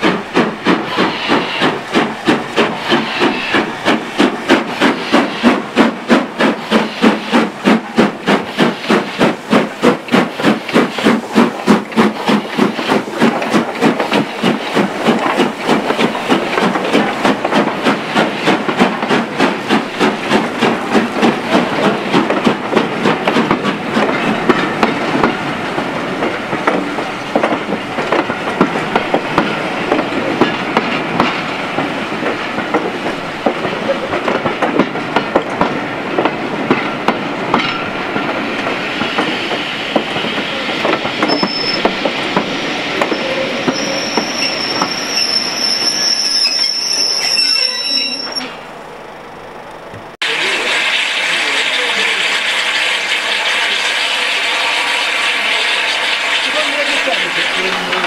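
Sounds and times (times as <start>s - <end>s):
train wheels clicking over rail joints: 0.0s - 47.0s
steam locomotive chuffing: 0.0s - 58.0s.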